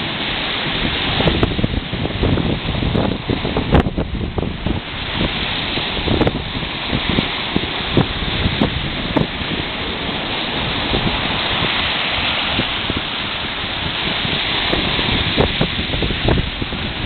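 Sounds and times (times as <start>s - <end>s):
sea surf washing ashore: 0.0s - 17.0s
wind on microphone: 0.0s - 17.0s.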